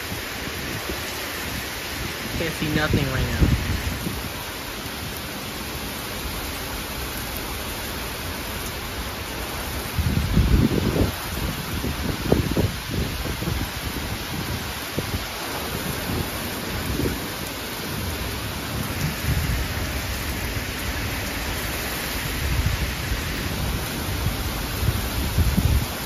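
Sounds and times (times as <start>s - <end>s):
wind gusts on microphone: 0.0s - 6.6s, 7.4s - 26.0s
heavy rain pouring: 0.0s - 26.0s.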